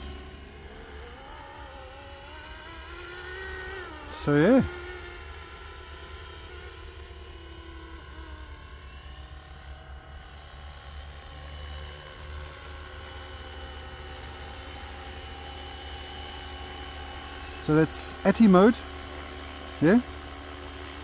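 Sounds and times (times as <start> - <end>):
rc helicopter rotor whine: 0.0 - 21.0.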